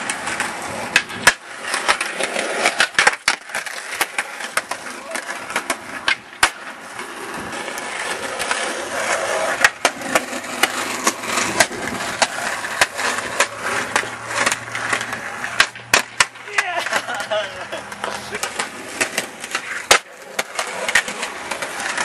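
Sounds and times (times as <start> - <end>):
skateboard clacks and knocks: 0.0 - 22.0
skateboard wheels rolling: 0.0 - 22.0.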